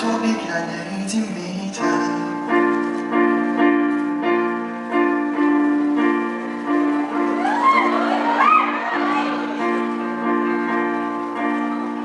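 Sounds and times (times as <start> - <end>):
repeated piano chords: 0.0 - 12.0.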